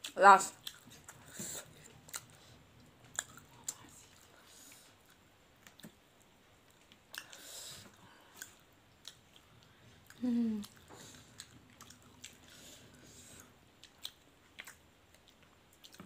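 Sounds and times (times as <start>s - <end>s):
chewing fried food: 0.0s - 16.0s.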